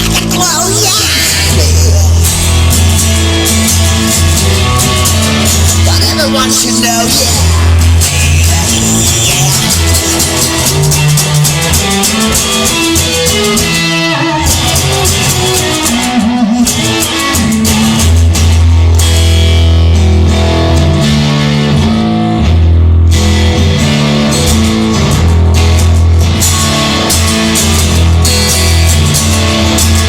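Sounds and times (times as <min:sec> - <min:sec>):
drum kit: 0:00.0 - 0:22.2, 0:23.1 - 0:30.0
bass guitar: 0:00.0 - 0:30.0
electric guitar: 0:00.0 - 0:30.0.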